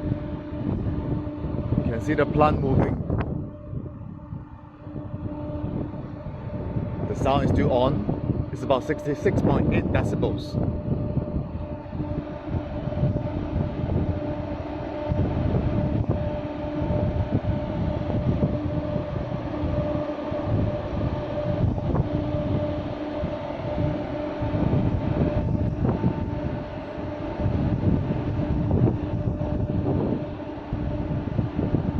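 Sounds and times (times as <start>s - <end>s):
ventilation fan droning hum: 0.0s - 31.9s.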